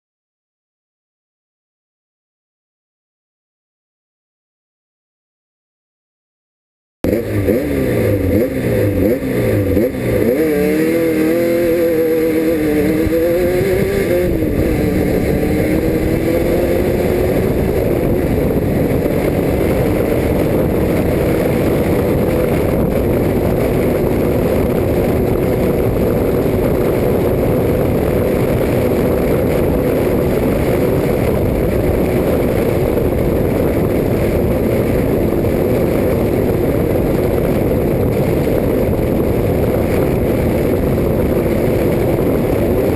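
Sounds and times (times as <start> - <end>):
dense rushing noise: 7.0 - 42.9
race car engine revving: 7.0 - 42.9.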